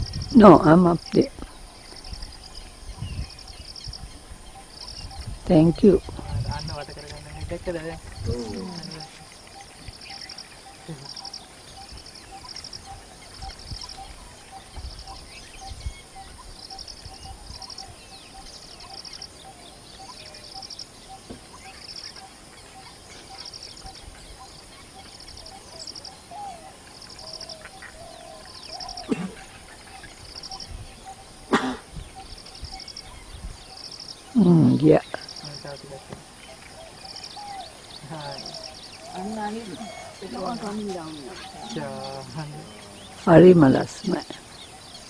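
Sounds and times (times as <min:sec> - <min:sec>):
faint bird calls: 0:00.0 - 0:45.0.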